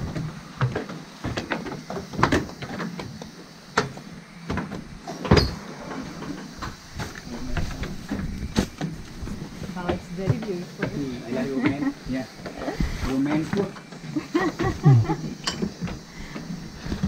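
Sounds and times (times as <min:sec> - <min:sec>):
footsteps on wooden stairs: 0:00.0 - 0:14.0.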